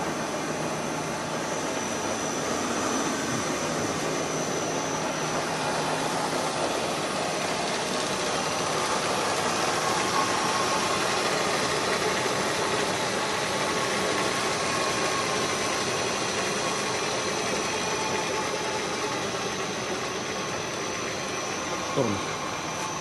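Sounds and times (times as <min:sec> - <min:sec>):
lathe whirring with faint whine: 0:00.0 - 0:23.0.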